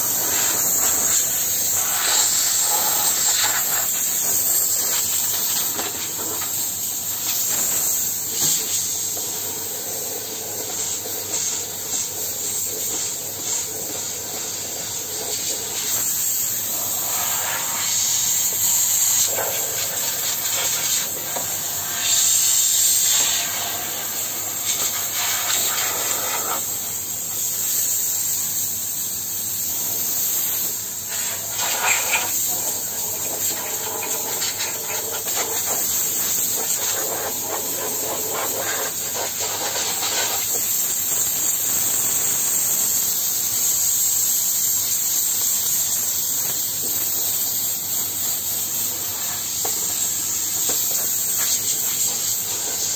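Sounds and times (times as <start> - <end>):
steam hissing from a nozzle: 0.0 - 52.9.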